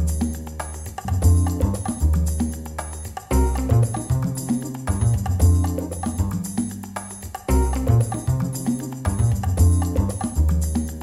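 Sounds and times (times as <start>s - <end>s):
music with percussion and bass: 0.0s - 11.0s.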